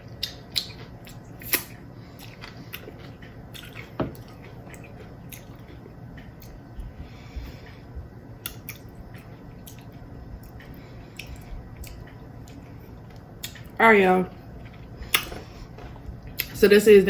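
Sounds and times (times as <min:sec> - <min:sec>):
person chewing: 0:00.0 - 0:16.6.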